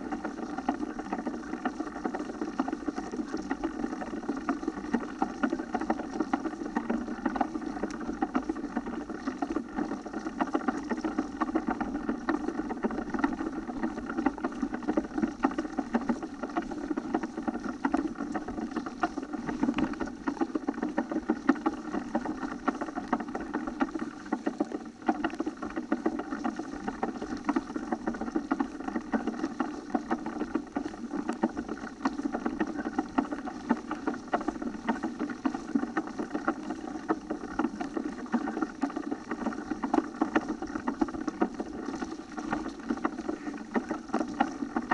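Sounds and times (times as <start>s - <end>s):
bike tyres rumbling on rough ground: 0.0s - 44.9s
dense constant rattle: 0.0s - 44.9s.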